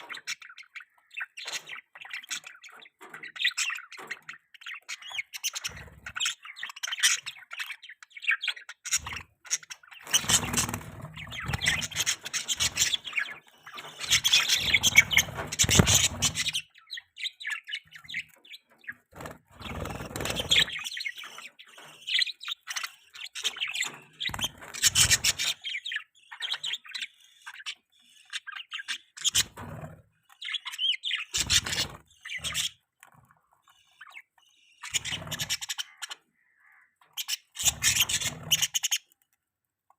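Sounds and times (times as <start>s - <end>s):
budgerigars chirping and chattering: 0.0s - 39.2s.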